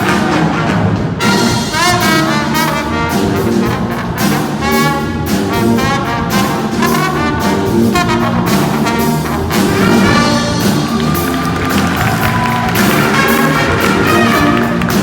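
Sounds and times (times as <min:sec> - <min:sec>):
brass horn section: 0:00.0 - 0:15.0
drum kit groove: 0:00.0 - 0:15.0.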